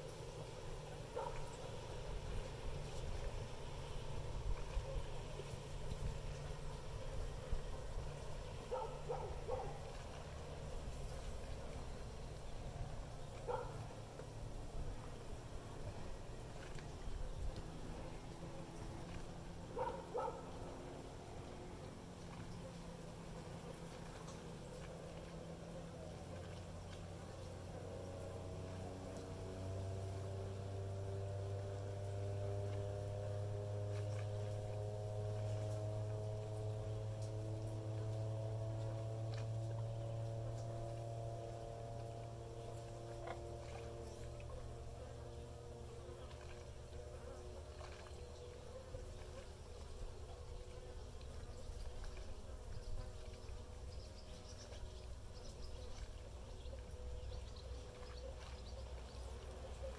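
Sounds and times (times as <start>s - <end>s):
low steady hum: 0.0s - 59.9s
steady low rumble: 0.0s - 59.9s.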